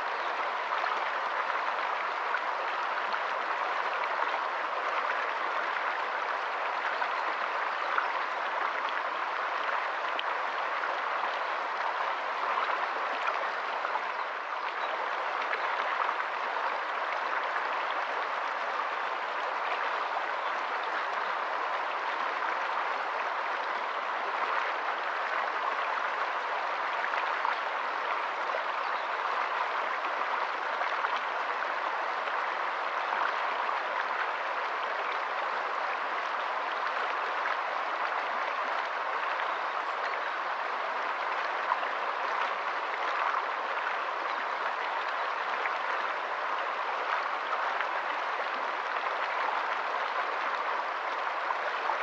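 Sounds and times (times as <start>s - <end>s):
stream water running over rocks: 0.0s - 52.0s.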